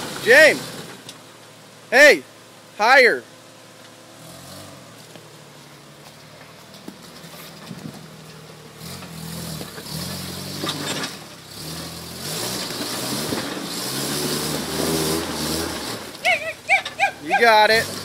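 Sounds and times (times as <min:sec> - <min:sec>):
truck engine revving: 0:00.0 - 0:01.2, 0:01.9 - 0:18.0.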